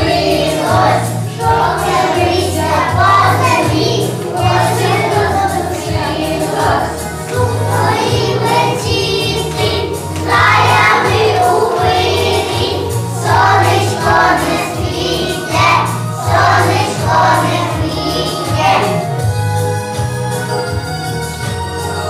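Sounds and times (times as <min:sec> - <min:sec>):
children singing: 0:00.0 - 0:19.2
backing track with bass line: 0:00.0 - 0:22.0.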